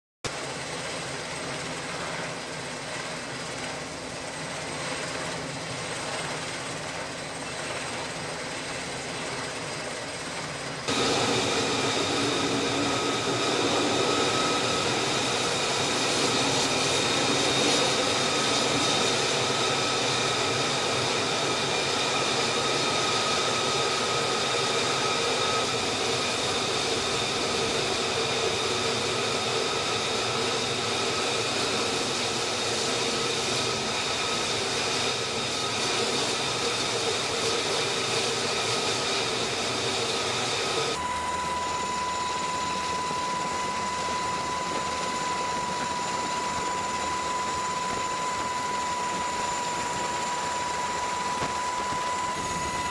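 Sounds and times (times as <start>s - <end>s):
jet engine whine: 0.3s - 52.9s.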